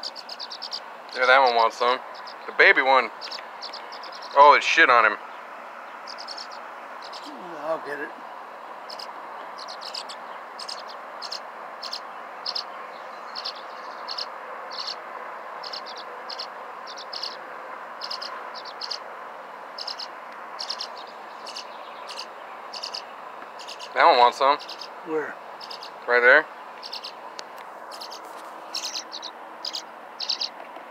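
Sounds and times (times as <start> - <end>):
nestling birds chirping: 0.0 - 30.9
steady background hiss: 0.0 - 30.9.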